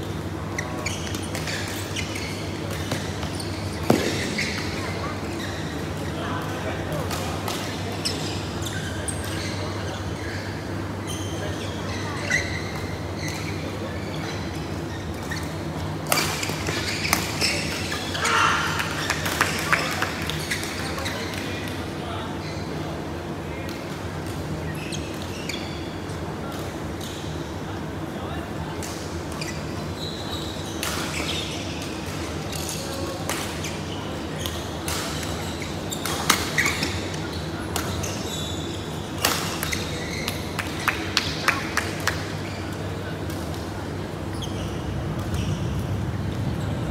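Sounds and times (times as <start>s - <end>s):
low hum of hall: 0.0s - 46.9s.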